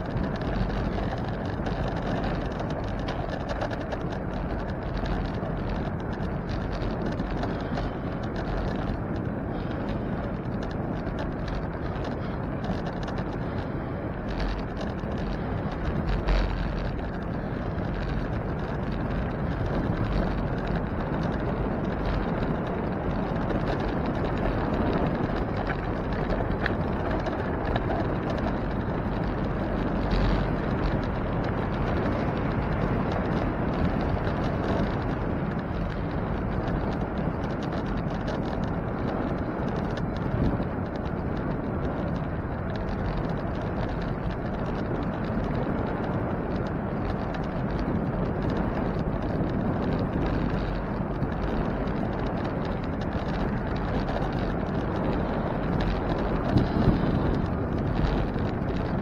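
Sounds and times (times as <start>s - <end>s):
bicycle rolling noise: 0.0s - 59.0s
wind buffeting microphone: 0.0s - 59.0s.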